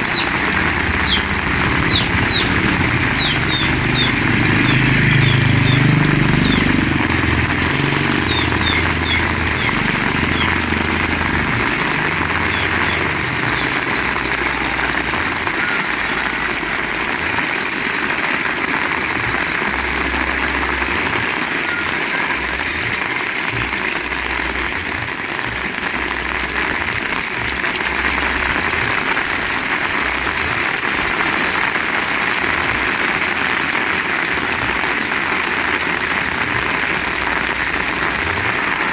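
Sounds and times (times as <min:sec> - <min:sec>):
heavy rain falling: 0:00.0 - 0:38.9
motorcycle engine: 0:00.0 - 0:38.9.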